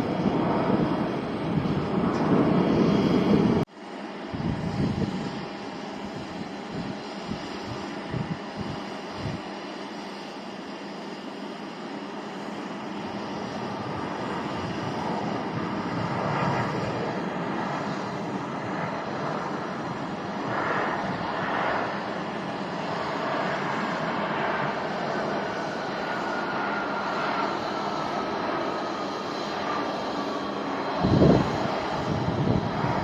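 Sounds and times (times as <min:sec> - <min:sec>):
airliner engines: 0:00.0 - 0:33.0.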